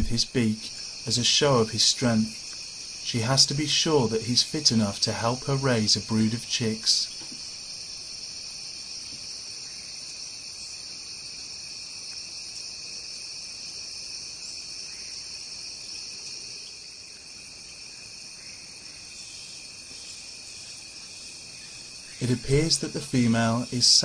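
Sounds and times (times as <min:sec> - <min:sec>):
insect chorus shrill hum: 0:00.0 - 0:24.0.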